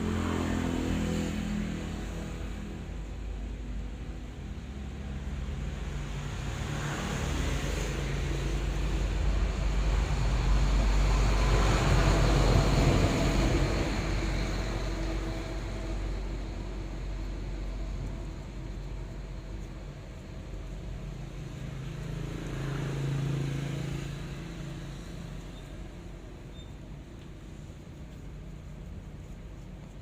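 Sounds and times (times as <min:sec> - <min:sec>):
passing vehicle engine rumble: 0:00.0 - 0:30.0.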